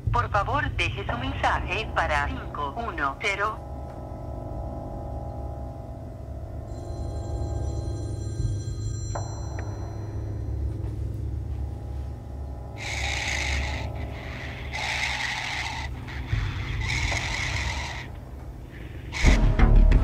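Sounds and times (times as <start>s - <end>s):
low steady drone: 0.0s - 20.0s.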